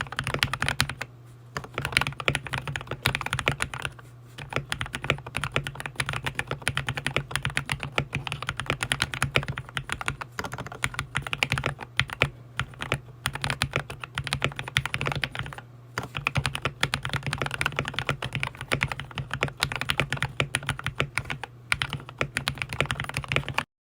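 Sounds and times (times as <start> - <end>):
fast mechanical keyboard typing: 0.0 - 23.7.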